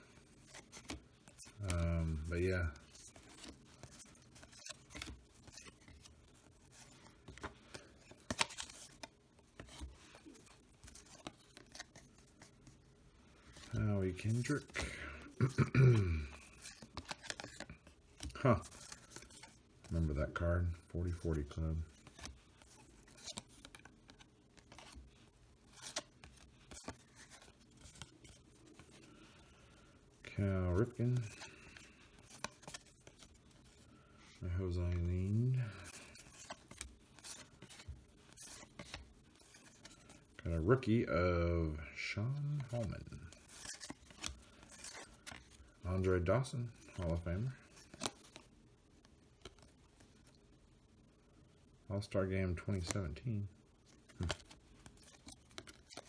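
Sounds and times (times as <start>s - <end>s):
cards being flipped by hand: 0.0s - 29.8s, 30.4s - 40.9s, 42.3s - 50.5s, 52.0s - 56.0s.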